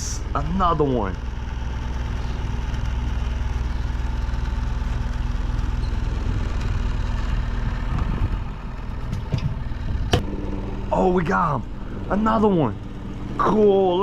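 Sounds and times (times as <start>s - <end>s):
idling engine hum: 0.0s - 14.0s.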